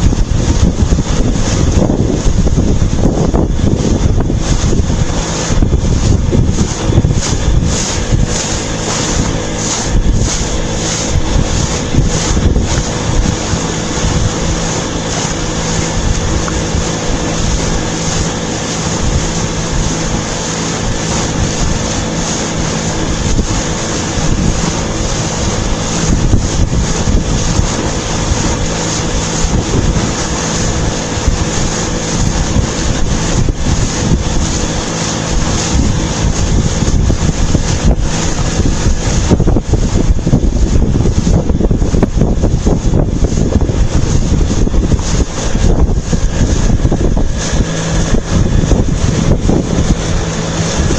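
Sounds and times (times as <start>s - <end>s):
boat engine running: 0.0s - 50.9s
water rushing: 0.0s - 50.9s
wind buffeting microphone: 0.0s - 50.9s.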